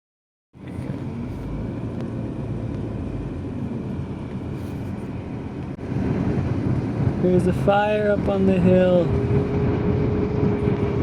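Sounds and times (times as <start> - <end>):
car engine and road rumble: 0.5 - 11.0.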